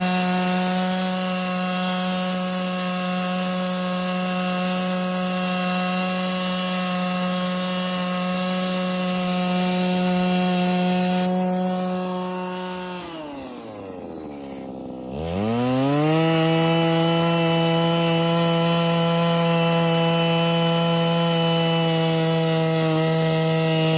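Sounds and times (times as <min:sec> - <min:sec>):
ice auger engine running: 0:00.0 - 0:23.9.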